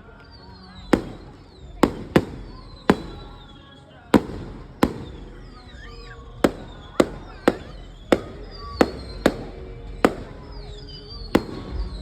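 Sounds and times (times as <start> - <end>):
firework bangs: 0.1 - 12.0
whistling rising shells: 0.1 - 12.0.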